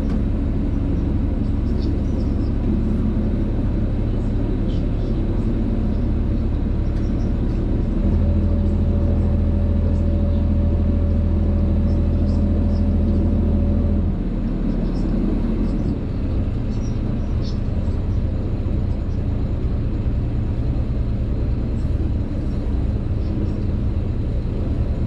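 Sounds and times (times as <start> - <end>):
boat motor rumbling: 0.0 - 25.0
even hum: 0.0 - 25.0.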